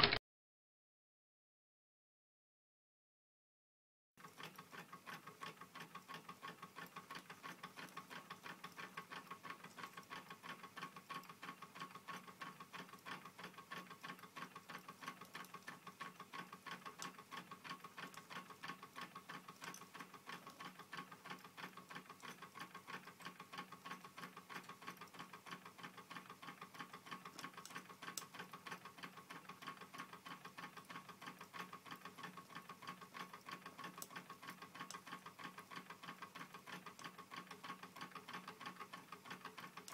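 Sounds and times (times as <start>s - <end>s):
small engine ticking and rattling: 4.2s - 39.9s.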